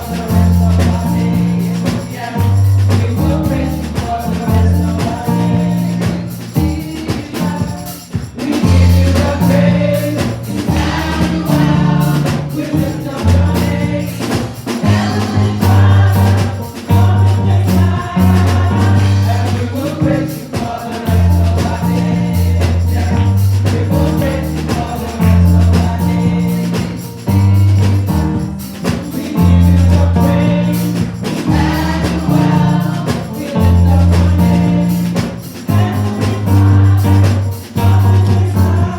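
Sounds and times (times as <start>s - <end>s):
bass line: 0.0s - 7.8s, 8.6s - 38.9s
drums: 0.0s - 38.9s
group singing gospel: 0.0s - 38.9s
tambourine: 0.0s - 38.9s.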